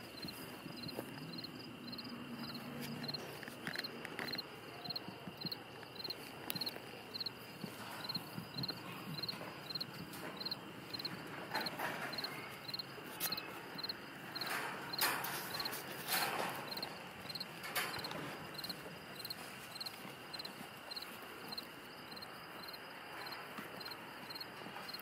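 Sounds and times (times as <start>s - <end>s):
animals rustling through grass: 0.0s - 22.0s
insects chirping: 0.0s - 25.0s
high-pitched insect trill: 0.1s - 7.4s, 8.0s - 15.9s, 16.6s - 25.0s.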